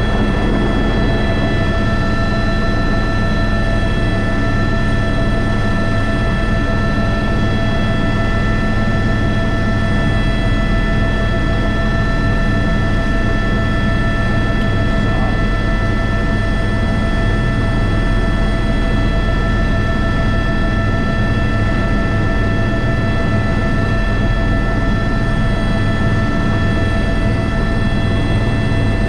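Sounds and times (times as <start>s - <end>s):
helicopter in flight: 0.0s - 29.0s
turbine whine: 0.0s - 29.0s.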